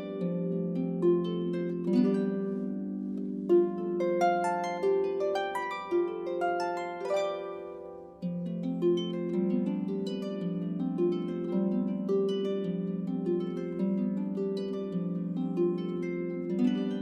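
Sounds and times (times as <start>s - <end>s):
solo harp music: 0.0s - 17.0s.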